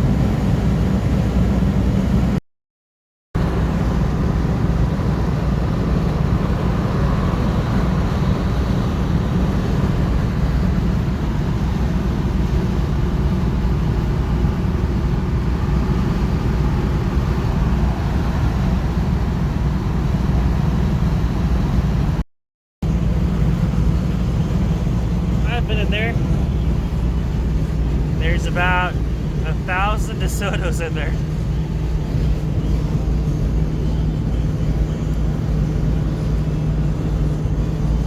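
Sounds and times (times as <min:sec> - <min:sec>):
car engine and road noise: 0:00.0 - 0:02.4, 0:03.4 - 0:22.2, 0:22.8 - 0:38.0.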